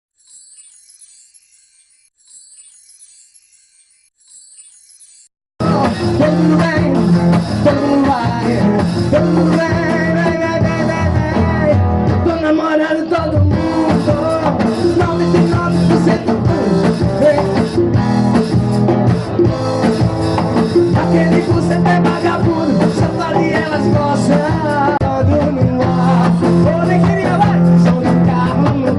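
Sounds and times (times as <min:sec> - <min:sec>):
live band playing: 0:05.6 - 0:28.9.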